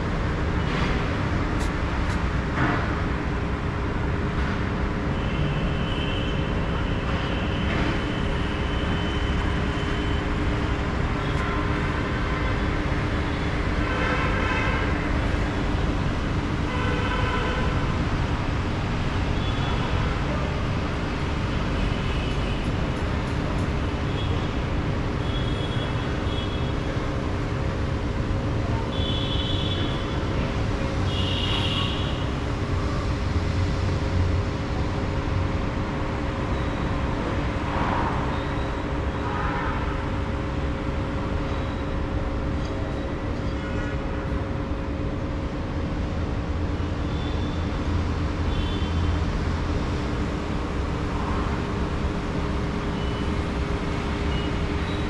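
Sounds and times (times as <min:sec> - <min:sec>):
low traffic rumble: 0:00.0 - 0:55.0.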